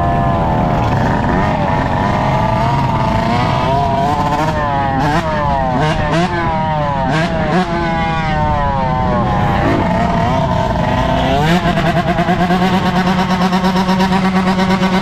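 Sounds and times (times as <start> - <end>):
dirt bike engine revving: 0.0 - 15.0
other dirt bikes and quads: 0.0 - 15.0.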